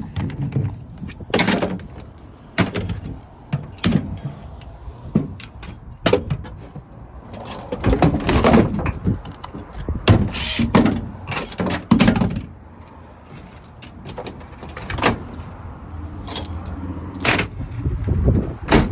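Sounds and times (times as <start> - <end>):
loose items clunking and rattling: 0.0 - 18.9.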